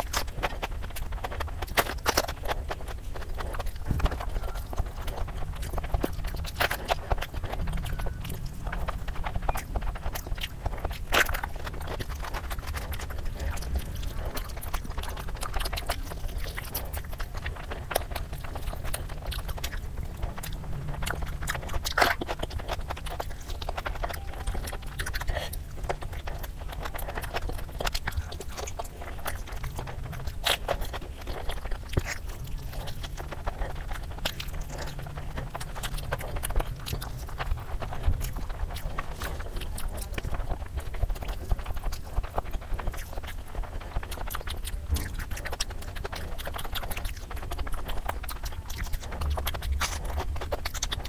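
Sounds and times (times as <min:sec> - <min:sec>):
close chewing and mouth smacks: 0:00.0 - 0:51.0
low steady hum: 0:00.0 - 0:51.0.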